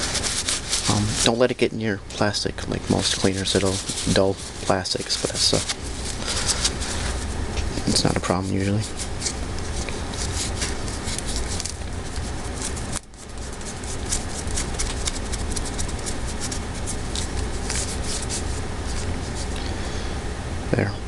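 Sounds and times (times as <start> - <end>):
wadding rubbed over metal: 0.0 - 19.6.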